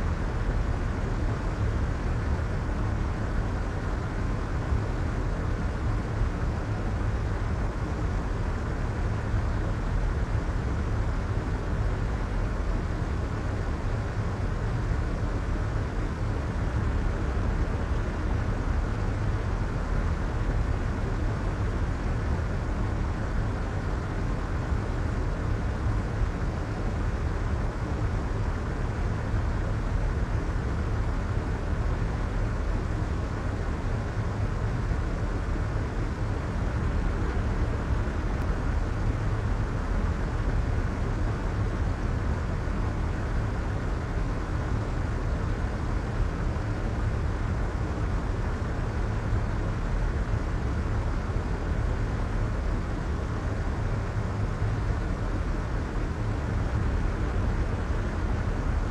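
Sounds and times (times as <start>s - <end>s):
deep white noise: 0.0s - 58.9s.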